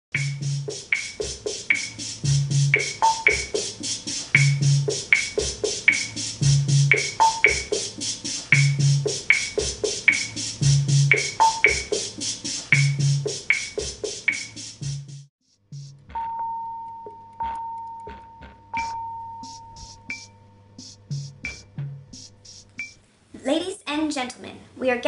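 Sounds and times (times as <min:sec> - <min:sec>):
drum machine hi-hat ticks: 0:00.2 - 0:23.0.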